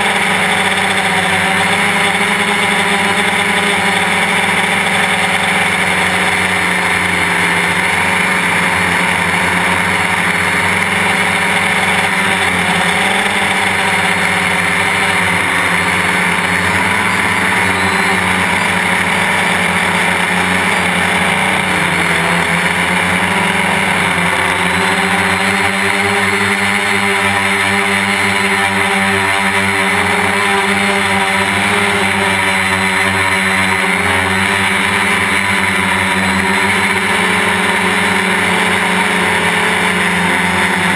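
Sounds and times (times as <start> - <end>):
drone motors buzzing: 0.0 - 40.9.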